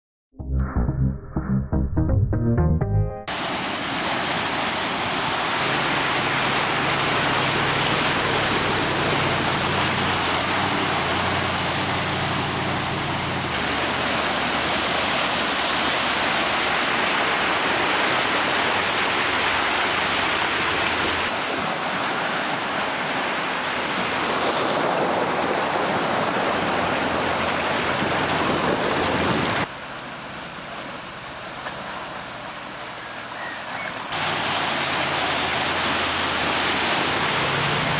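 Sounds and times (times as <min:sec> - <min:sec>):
water rushing and splashing: 0:03.3 - 0:37.9.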